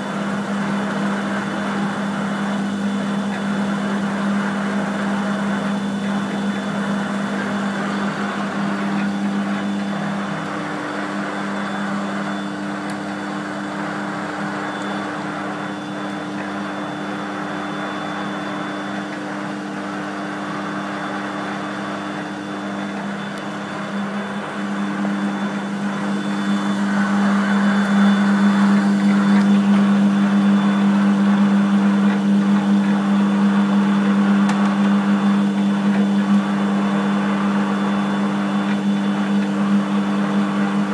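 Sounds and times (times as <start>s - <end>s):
lathe motor and gearbox hum: 0.0s - 40.9s.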